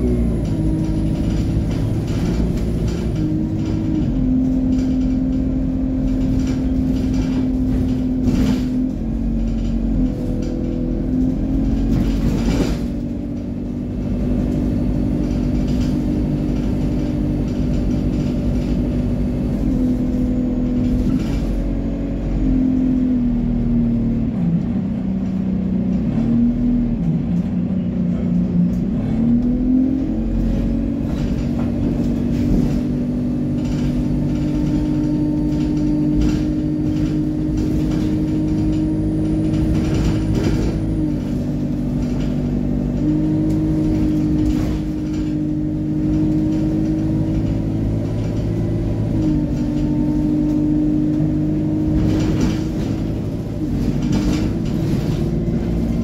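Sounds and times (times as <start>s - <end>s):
bus engine drone: 0.0s - 56.0s
road rumble: 0.0s - 56.0s
body knocks and rattles: 0.5s - 21.7s, 30.5s - 56.0s.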